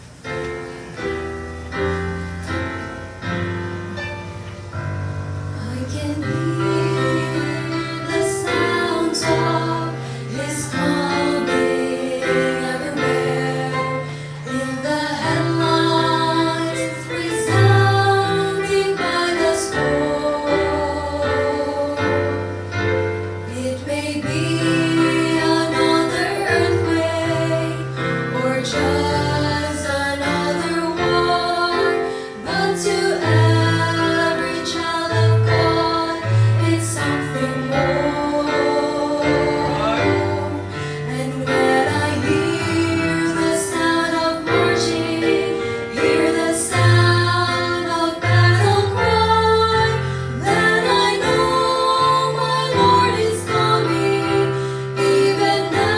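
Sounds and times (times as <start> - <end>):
instrumental backing: 0.0 - 55.9
vocal trio singing gospel: 1.0 - 55.9.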